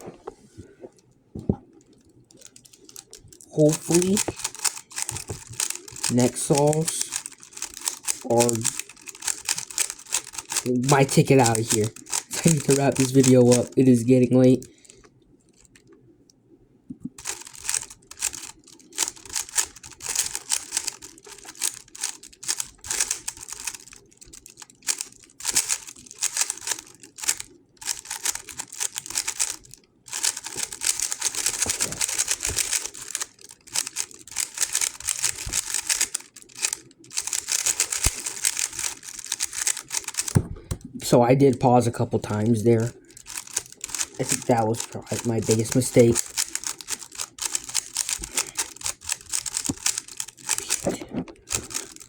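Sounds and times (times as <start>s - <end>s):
plastic puzzle cube clicking: 2.3s - 13.8s, 17.1s - 41.0s, 42.8s - 52.0s.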